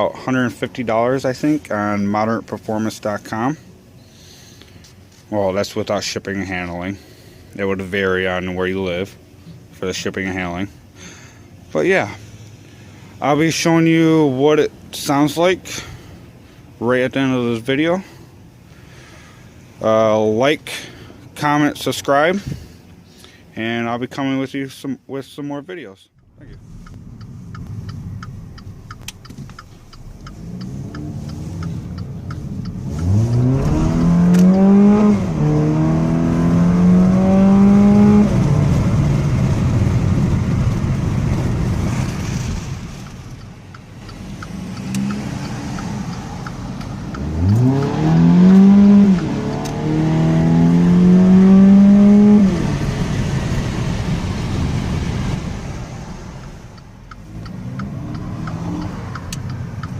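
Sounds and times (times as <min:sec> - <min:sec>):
car engine idling and revving: 0:00.0 - 0:23.7, 0:26.1 - 0:59.9.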